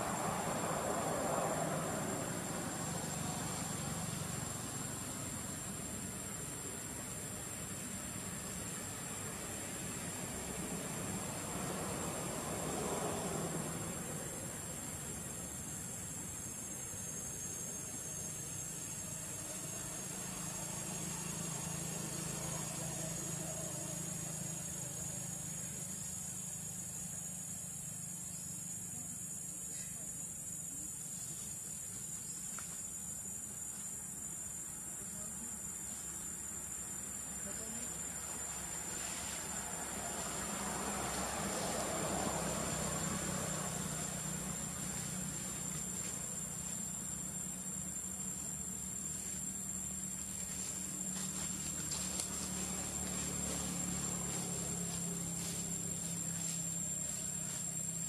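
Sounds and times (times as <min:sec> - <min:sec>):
low engine-like hum: 0:00.0 - 0:32.5, 0:34.3 - 0:58.0.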